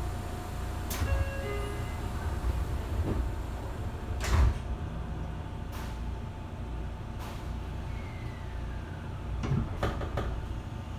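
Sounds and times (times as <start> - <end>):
train car low rumble: 0.0 - 10.9
train doors closing with thud: 0.8 - 8.6, 9.3 - 10.6.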